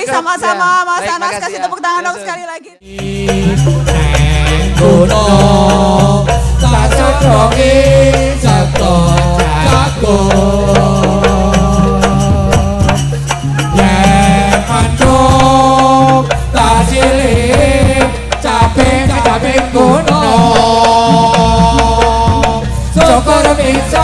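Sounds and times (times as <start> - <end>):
drum and percussion strokes: 2.9 - 24.0
steady low bass: 2.9 - 24.0.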